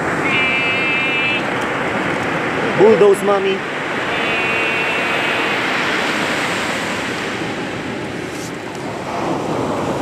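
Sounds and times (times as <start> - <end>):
ocean waves rushing: 0.0 - 10.0.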